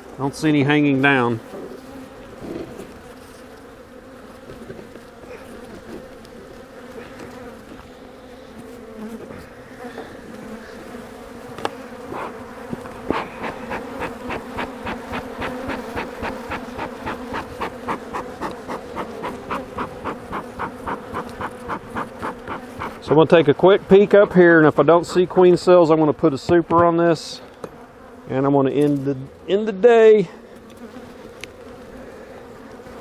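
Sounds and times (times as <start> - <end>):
honey bees buzzing: 0.0 - 26.4, 27.2 - 33.0.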